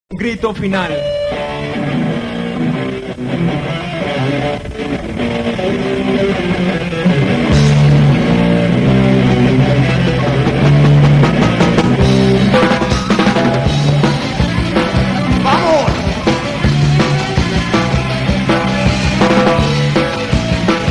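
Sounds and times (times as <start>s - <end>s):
heavy metal band playing: 0.2s - 20.9s.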